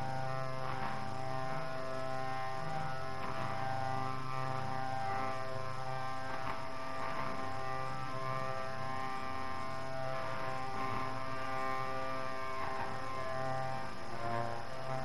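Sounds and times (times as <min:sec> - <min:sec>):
slow droning music: 0:00.0 - 0:15.0
tape hiss: 0:00.0 - 0:15.0.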